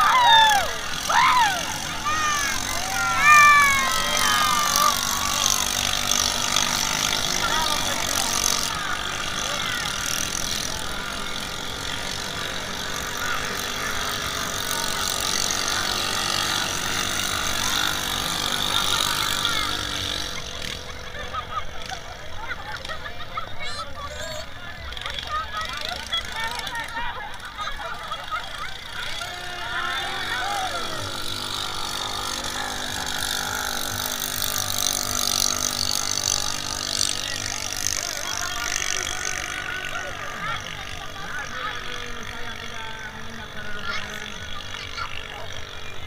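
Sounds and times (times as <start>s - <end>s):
crowd chatter: 0.0s - 46.0s
racing boat engines buzzing: 0.0s - 46.0s.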